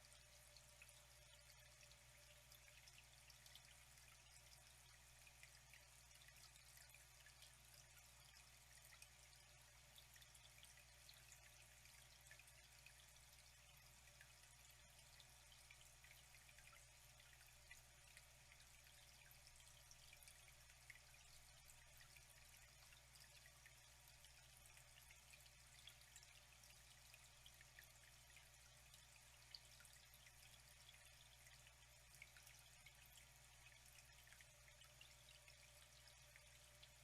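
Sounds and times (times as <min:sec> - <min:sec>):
trickle of flowing water: 0:00.0 - 0:37.0
water drips and splashes: 0:00.0 - 0:37.0.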